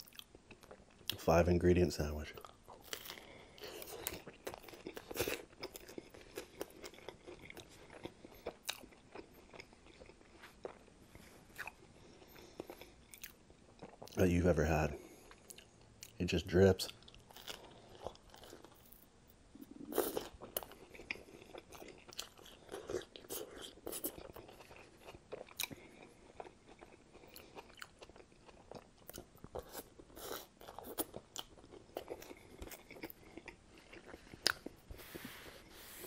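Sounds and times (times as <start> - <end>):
person chewing crunchy toast: 0.0 - 1.1, 2.4 - 14.2, 16.9 - 35.7.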